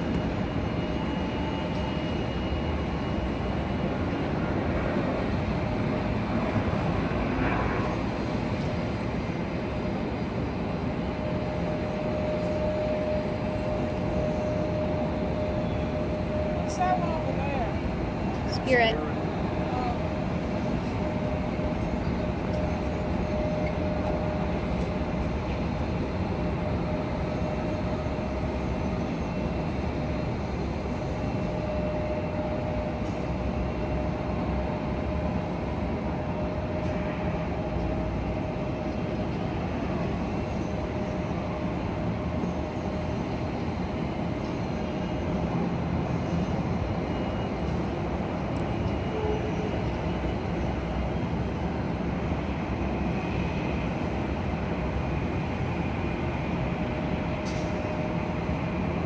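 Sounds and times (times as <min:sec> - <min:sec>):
jet engines rumbling: 0:00.0 - 0:59.0
thin steady whine: 0:00.0 - 0:59.0.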